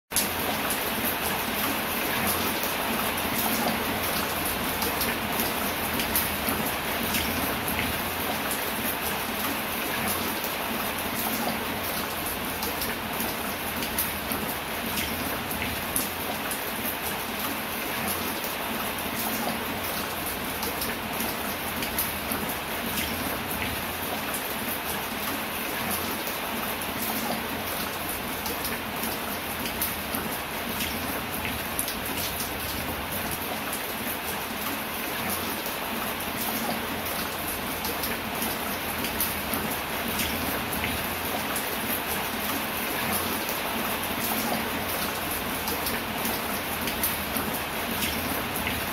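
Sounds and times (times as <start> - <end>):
light rain on foliage: 0.1 - 48.9.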